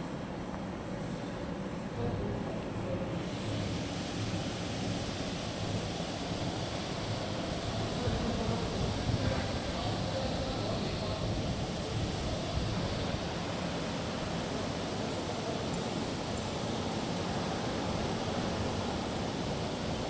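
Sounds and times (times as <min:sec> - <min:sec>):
machine drone with low hum: 0:00.0 - 0:20.0.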